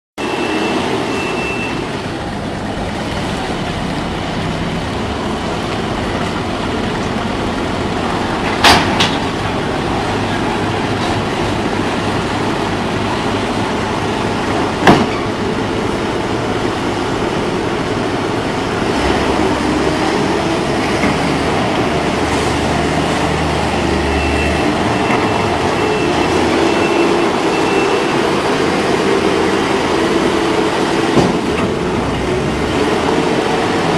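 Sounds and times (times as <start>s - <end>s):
loader engine running: 0.2s - 33.9s.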